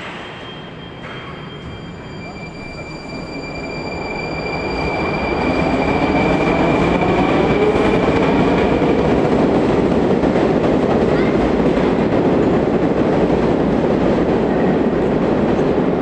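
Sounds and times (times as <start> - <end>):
metro train rumbling past: 0.0 - 16.0.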